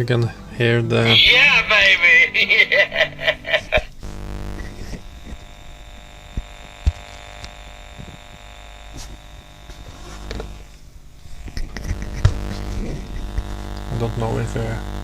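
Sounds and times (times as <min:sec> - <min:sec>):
electrical hum from speaker: 0:00.0 - 0:15.0.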